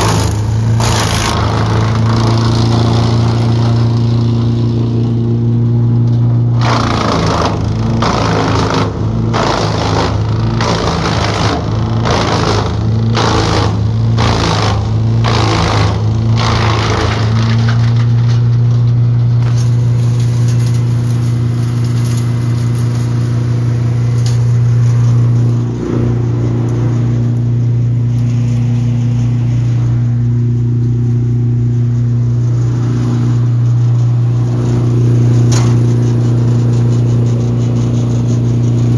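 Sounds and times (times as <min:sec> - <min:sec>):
wood chipper cracking branches: 0:00.0 - 0:38.9
wood chipper engine hum: 0:00.0 - 0:38.9.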